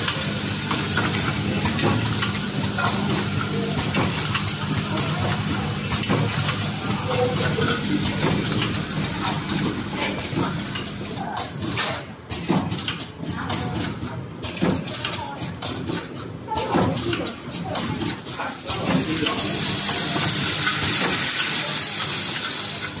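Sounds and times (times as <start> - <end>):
machine clicking and clattering: 0.0 - 23.0.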